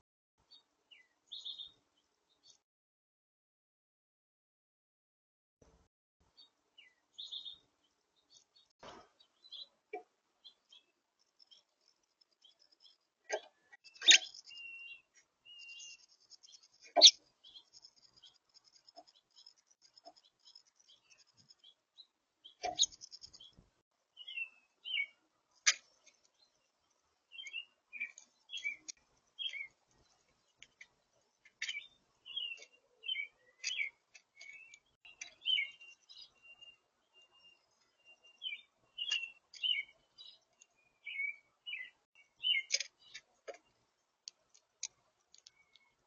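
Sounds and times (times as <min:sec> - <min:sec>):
small songbirds chirping: 0:00.4 - 0:02.6, 0:05.6 - 0:46.0.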